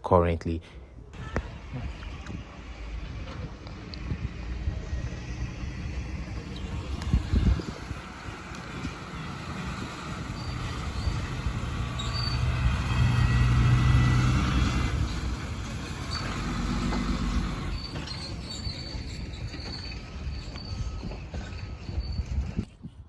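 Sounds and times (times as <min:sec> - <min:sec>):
heavy vehicle engine rumble: 0:00.8 - 0:22.7.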